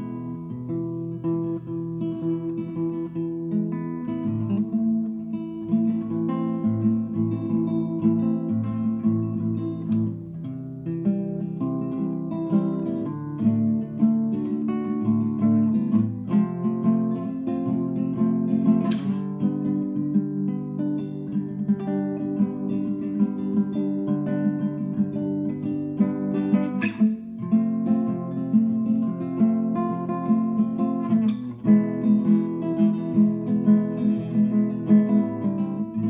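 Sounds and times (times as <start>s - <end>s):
classical guitar fingerstyle: 0.0s - 36.0s
guitar strummed stroke: 0.0s - 36.0s.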